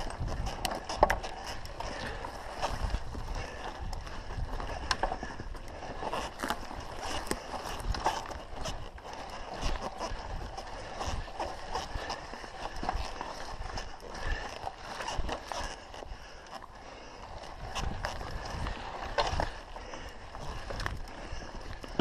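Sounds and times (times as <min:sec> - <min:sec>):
wind rumble on microphone: 0:00.0 - 0:16.4, 0:17.1 - 0:22.0
mountain bike rattling on trail: 0:00.0 - 0:22.0.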